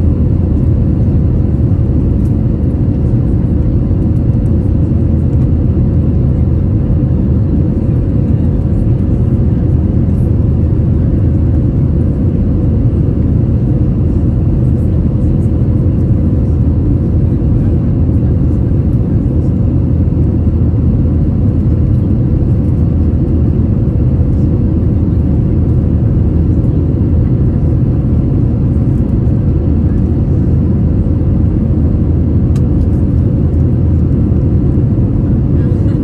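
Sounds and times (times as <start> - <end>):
airplane cabin roar: 0.0 - 36.0.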